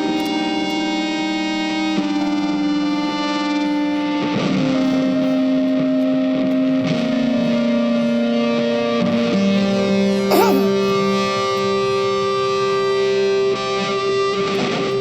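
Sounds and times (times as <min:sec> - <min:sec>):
guitar playing long held notes: 0:00.0 - 0:15.0.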